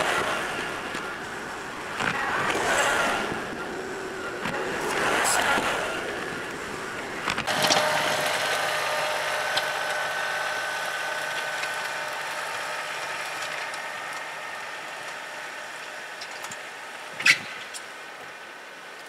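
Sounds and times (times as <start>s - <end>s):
tractor diesel engine running: 0.0s - 17.2s
high engine whine: 0.0s - 19.0s.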